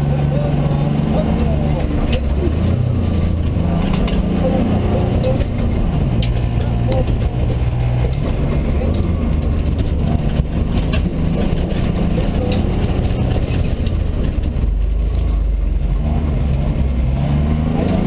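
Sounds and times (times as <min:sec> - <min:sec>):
rally car engine at speed: 0:00.0 - 0:18.0.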